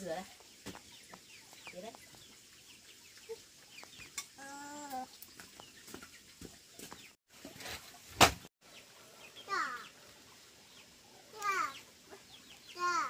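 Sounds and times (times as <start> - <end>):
chickens clucking: 0.0 - 8.1, 8.7 - 13.0.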